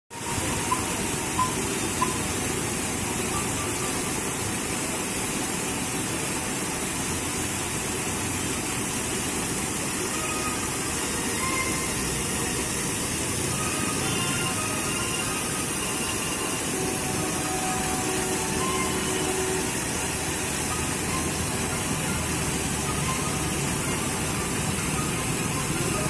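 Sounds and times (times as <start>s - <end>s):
fountain jets splashing: 0.1s - 26.0s.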